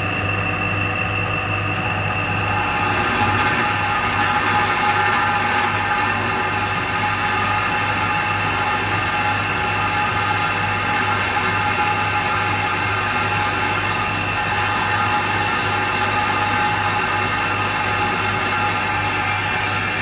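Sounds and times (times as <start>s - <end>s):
gear whine: 1.5s - 20.0s
milling machine hum: 1.7s - 20.0s.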